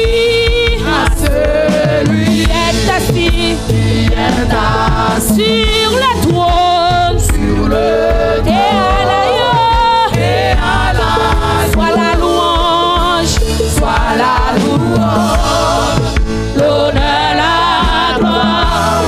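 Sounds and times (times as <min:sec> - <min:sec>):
women singing gospel song: 0:00.0 - 0:19.0.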